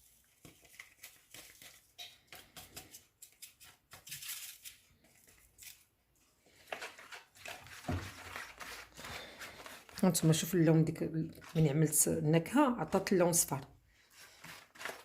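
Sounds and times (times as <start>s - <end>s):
paper sachet rustling: 0.0s - 5.9s, 6.5s - 12.0s, 14.1s - 15.0s.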